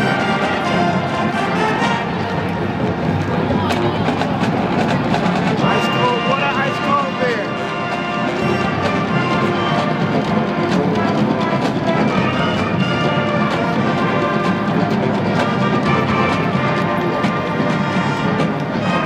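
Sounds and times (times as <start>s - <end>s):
brass horns sustaining chords: 0.0s - 3.2s, 5.6s - 19.0s
drum strokes: 0.0s - 19.0s.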